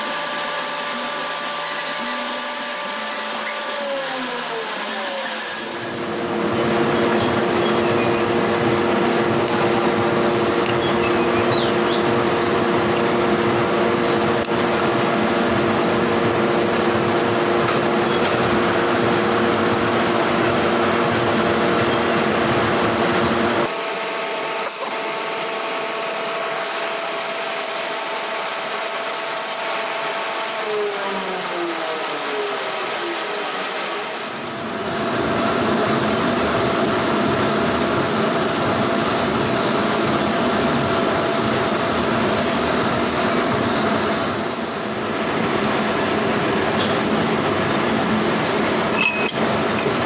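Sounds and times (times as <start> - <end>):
lathe falling whine: 0.0 - 50.0
metal lathe humming: 0.0 - 50.0.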